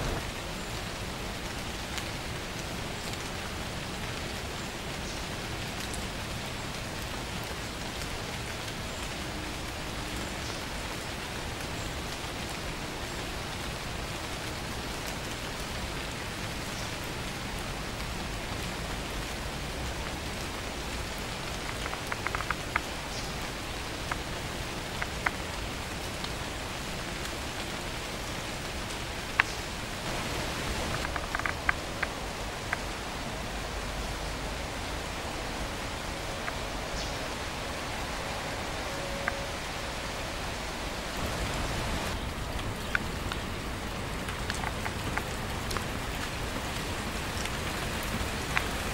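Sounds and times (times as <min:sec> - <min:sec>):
rain on leaves and ground: 0:00.0 - 0:48.9.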